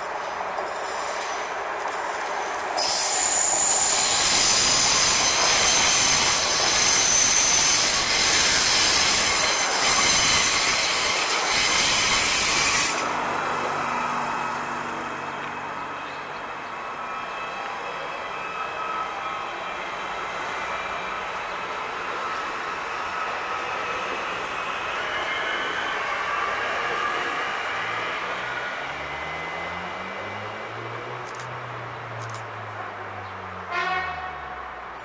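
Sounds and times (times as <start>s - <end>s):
train wheels squealing on rails: 0.0s - 13.2s, 14.2s - 30.9s
electric train passing: 0.0s - 33.7s.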